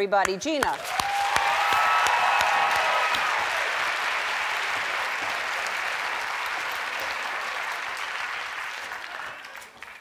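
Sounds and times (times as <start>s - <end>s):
studio audience applauding: 0.6s - 10.0s.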